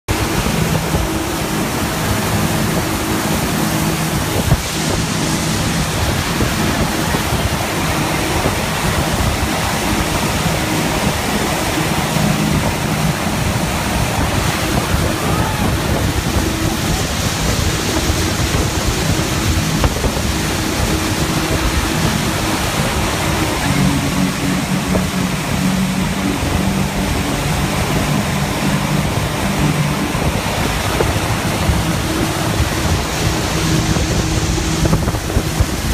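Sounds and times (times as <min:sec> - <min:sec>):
boat wake churning: 0:00.0 - 0:35.9
motorboat engine hum: 0:00.0 - 0:35.9
wind rushing over microphone: 0:00.1 - 0:35.9.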